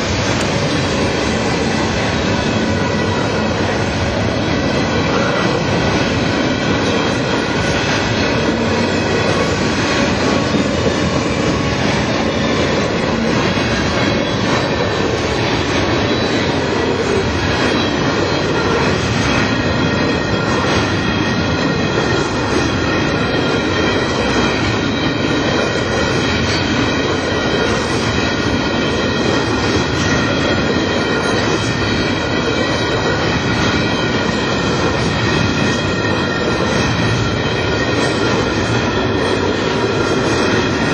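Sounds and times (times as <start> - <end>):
freight cars rolling on rails: 0.0 - 40.9.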